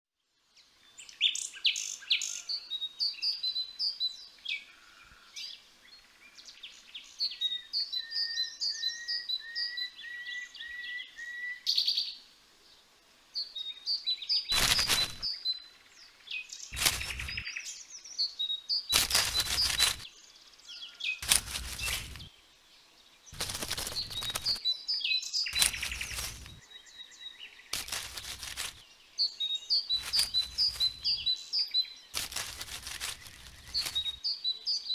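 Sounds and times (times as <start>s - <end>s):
songbirds chirping: 0.2s - 34.9s.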